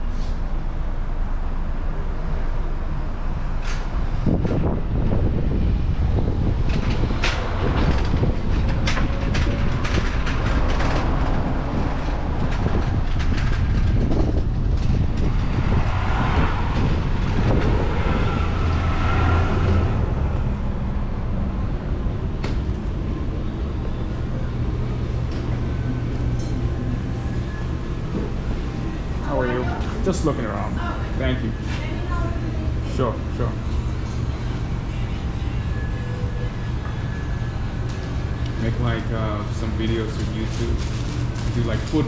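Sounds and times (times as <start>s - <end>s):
passing traffic rumble: 0.0s - 42.0s.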